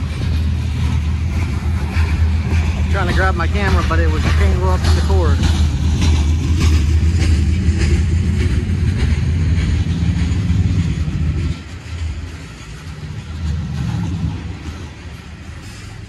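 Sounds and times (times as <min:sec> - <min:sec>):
train rumbling past: 0:00.0 - 0:16.0
train wheels clicking: 0:00.0 - 0:16.0.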